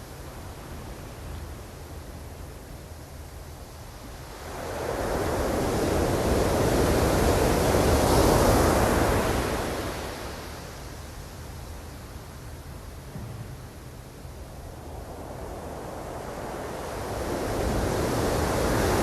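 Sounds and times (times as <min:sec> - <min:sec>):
low rumble of sea: 0:00.0 - 0:19.0.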